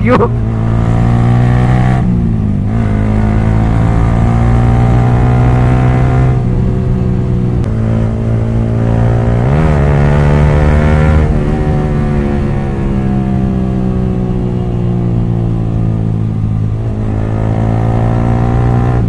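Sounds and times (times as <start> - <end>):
motorcycle engine running loud: 0.0 - 19.0.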